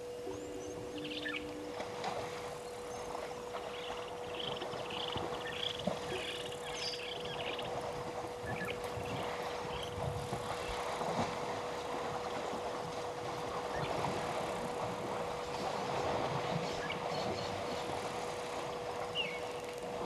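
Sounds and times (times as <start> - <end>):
faint electrical hum: 0.0 - 20.0
water sloshing and splashing: 0.0 - 20.0.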